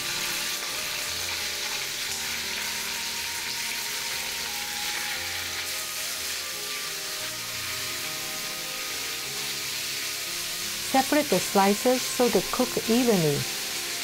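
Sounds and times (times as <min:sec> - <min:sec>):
beef sizzling in oil: 0:00.0 - 0:14.0.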